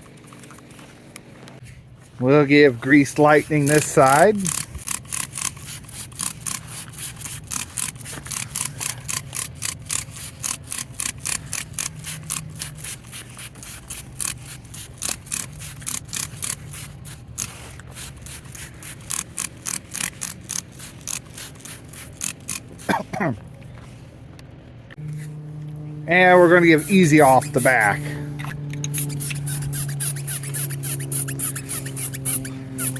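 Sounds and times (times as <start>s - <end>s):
trigger spray bottle spritzing: 3.0s - 23.2s, 26.3s - 32.9s.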